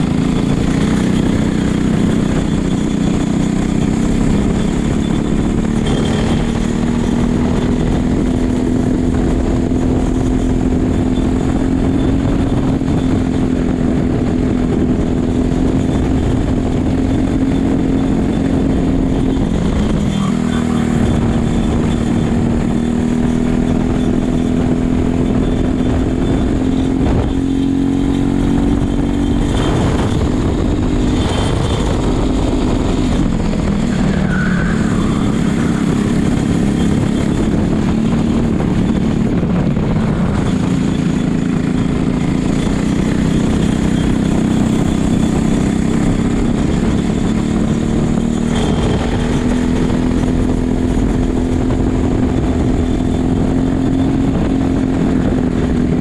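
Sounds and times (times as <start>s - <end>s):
kart engine racing: 0.0s - 56.0s.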